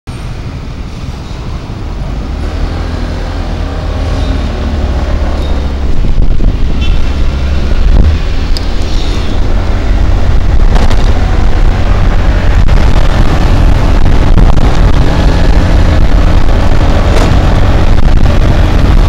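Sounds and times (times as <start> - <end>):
road and traffic noise: 0.1 - 19.0
wind rumbling on microphone: 0.1 - 19.0.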